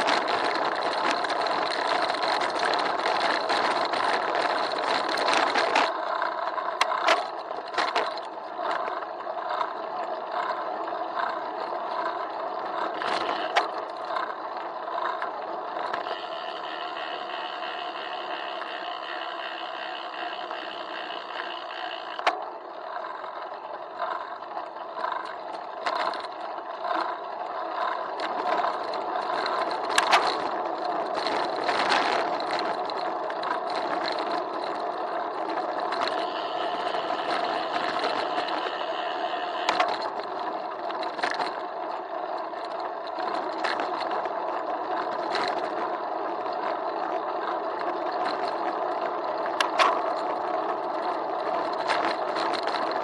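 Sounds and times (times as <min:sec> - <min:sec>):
bicycle tyre and road noise: 0:00.0 - 0:53.0.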